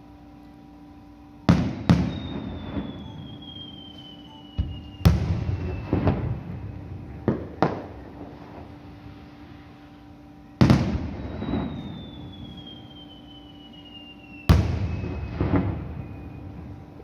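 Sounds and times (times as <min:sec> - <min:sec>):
fireworks bursting: 0:01.5 - 0:17.0.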